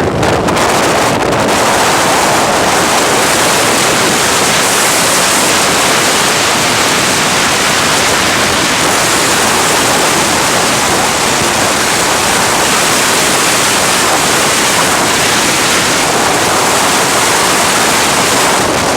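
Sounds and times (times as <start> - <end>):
strong wind rushing: 0.0 - 18.9.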